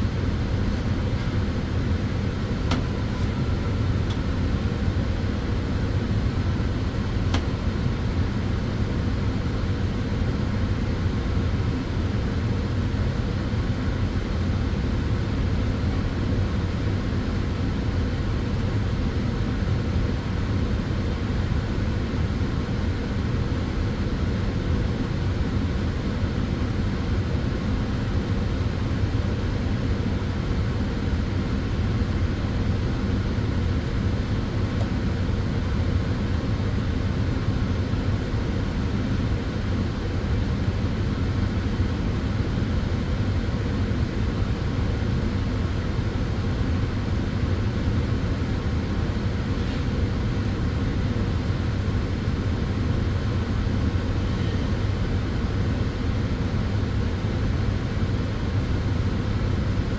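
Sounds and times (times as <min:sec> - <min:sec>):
sunbed cooling fans humming: 0:00.0 - 0:59.9.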